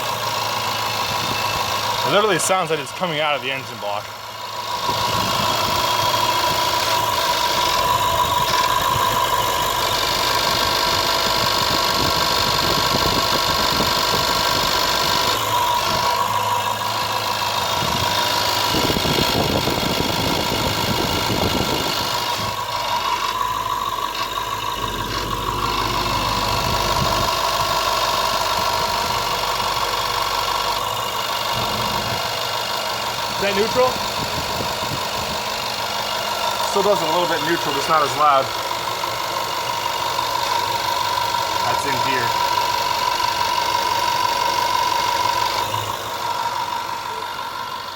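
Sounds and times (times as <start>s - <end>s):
car engine running: 0.0s - 47.9s
steady whining tone: 0.0s - 47.9s.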